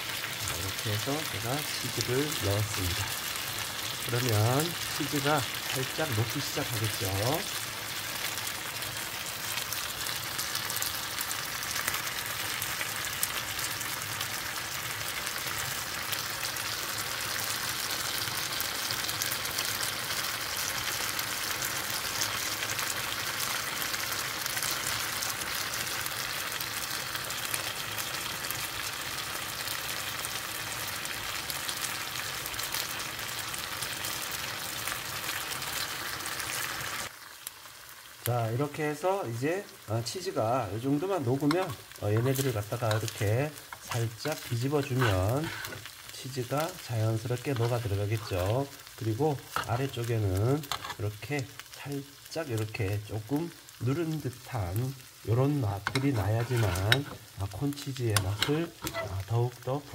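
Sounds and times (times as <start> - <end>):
food sizzling and bubbling in pan: 0.0 - 59.9.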